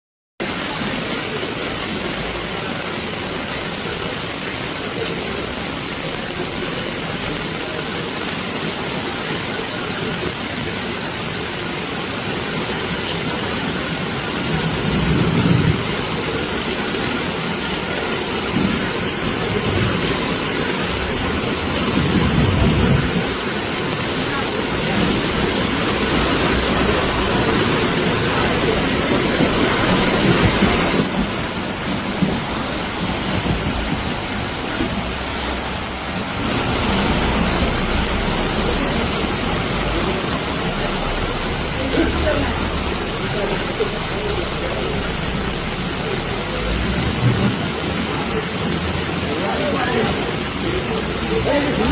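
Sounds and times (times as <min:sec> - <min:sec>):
heavy rain: 0:00.4 - 0:51.9.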